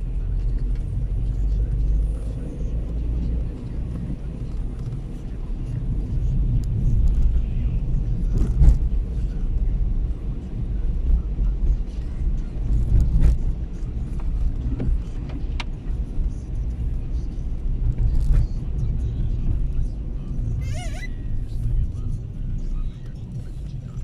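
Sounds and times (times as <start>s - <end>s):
vehicle driving on wet street: 0.0s - 24.0s.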